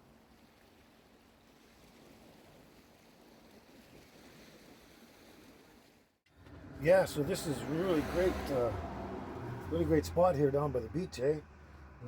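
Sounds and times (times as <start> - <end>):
distant surf and wind: 0.0 - 12.0.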